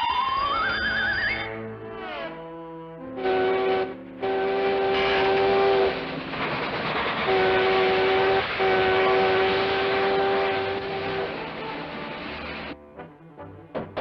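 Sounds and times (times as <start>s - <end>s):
steam locomotive whistle: 0.0s - 13.6s
train running: 0.0s - 14.0s.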